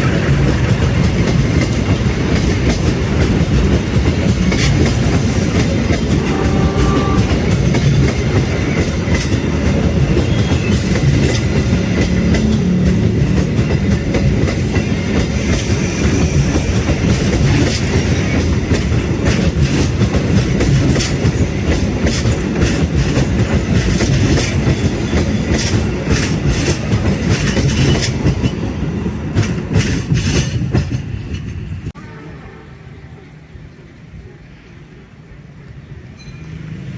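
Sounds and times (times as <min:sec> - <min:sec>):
wheels clacking over rail joints: 0:00.0 - 0:31.9
train rumbling past: 0:00.0 - 0:36.9.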